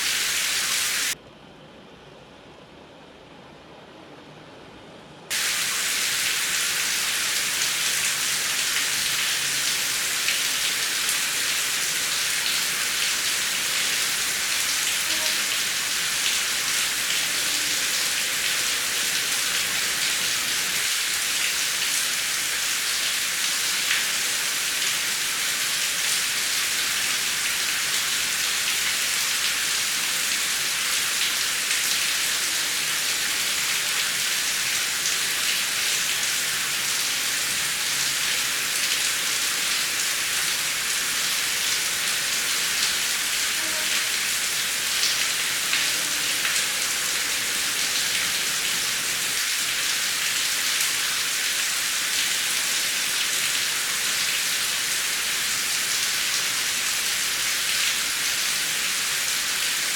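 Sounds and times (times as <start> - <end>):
heavy rain falling: 0.0 - 1.2, 5.3 - 59.9.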